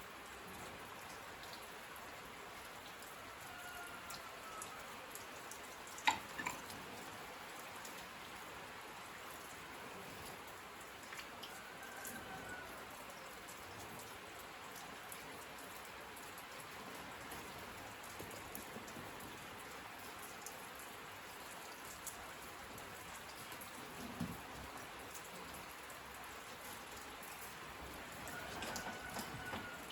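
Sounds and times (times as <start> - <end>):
raindrops striking close by: 0.0 - 29.9
steady rain falling: 0.0 - 29.9.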